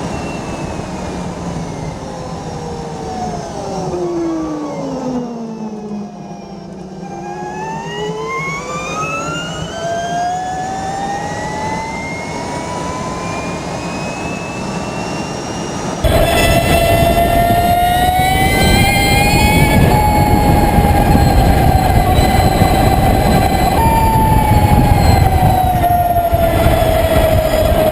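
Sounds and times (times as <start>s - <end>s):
electric motorcycle motor whine: 0.0s - 27.9s
wind and road roar: 0.0s - 27.9s.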